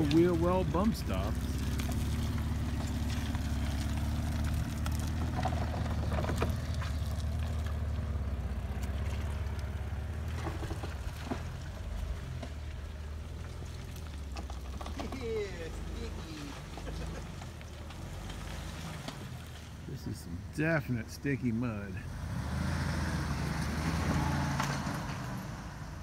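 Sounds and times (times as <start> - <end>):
engine droning under load: 0.0 - 26.0.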